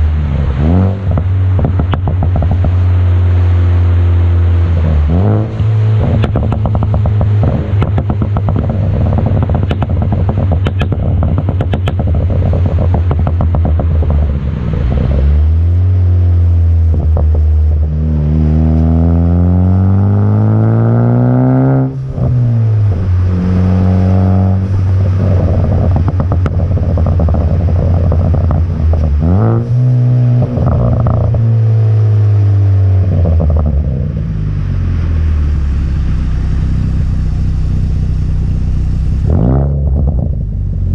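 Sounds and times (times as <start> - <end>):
car engine revving: 0.0 - 40.9
exhaust popping and crackling: 0.0 - 40.9.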